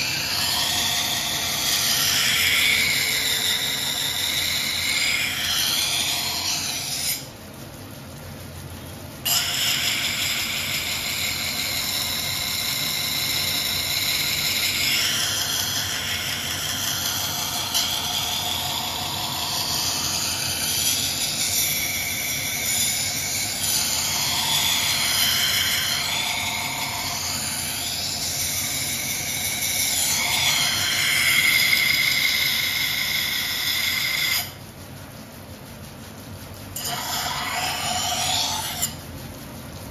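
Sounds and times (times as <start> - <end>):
blade grinding on wet wheel: 0.0 - 7.3, 9.3 - 34.6, 36.8 - 39.0
grinding wheel motor hum: 0.0 - 7.4, 8.8 - 34.6, 36.7 - 39.0.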